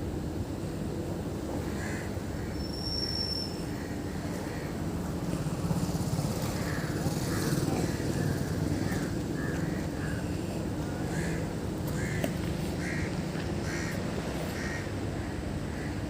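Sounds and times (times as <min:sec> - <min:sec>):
engine running low rumble: 0:00.0 - 0:16.0.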